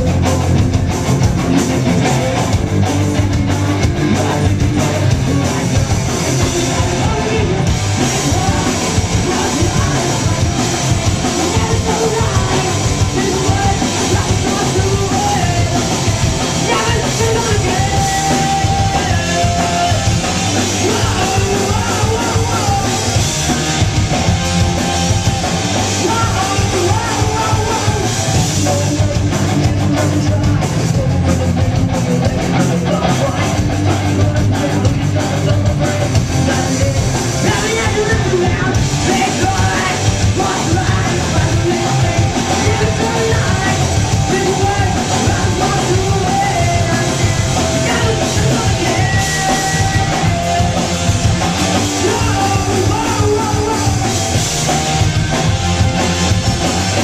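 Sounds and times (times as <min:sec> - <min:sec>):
person singing: 0:00.0 - 0:23.9, 0:25.3 - 0:54.4
live rock band playing: 0:00.0 - 0:57.0.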